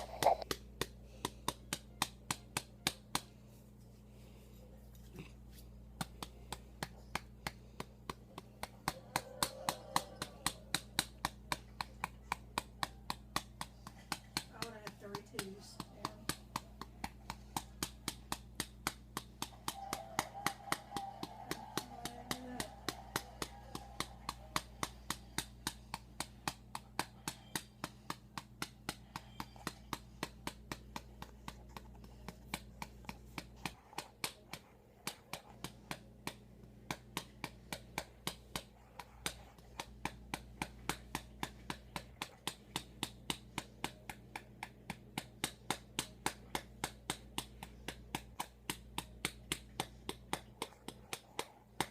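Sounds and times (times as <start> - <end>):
hand patting a doll: 0.0 - 3.4, 5.2 - 51.9.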